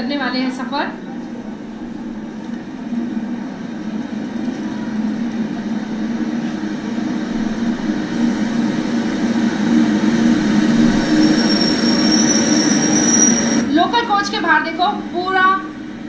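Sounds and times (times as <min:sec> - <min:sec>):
train rumbling into station: 0:00.0 - 0:16.0
high steady squeal: 0:01.2 - 0:16.0.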